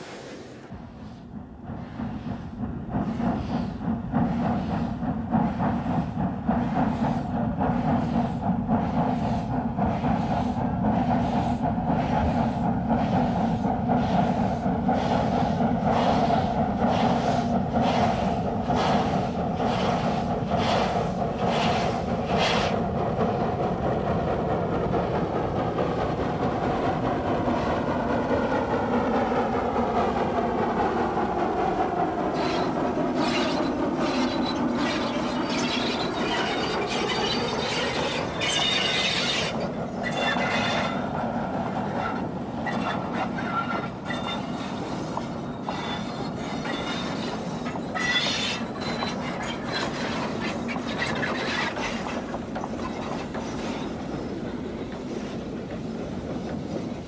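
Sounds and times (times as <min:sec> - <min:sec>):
steam locomotive exhaust beats: 0:00.6 - 0:57.0.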